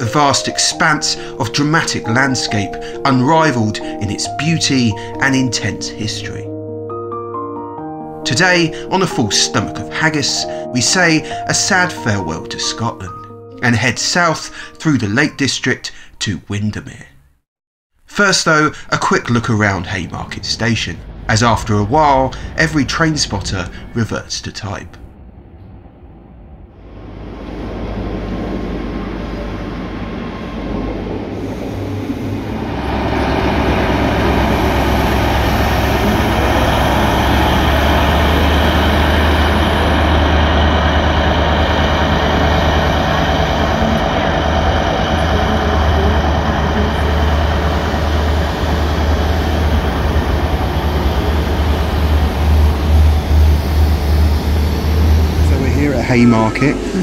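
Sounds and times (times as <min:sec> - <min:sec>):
train rumbling: 0:00.0 - 0:06.5, 0:08.1 - 0:13.1, 0:18.8 - 0:57.0.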